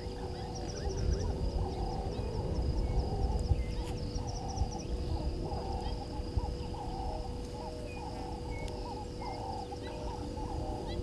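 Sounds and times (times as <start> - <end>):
faint steady tone: 0.0 - 11.0
short low bird calls: 0.0 - 11.0.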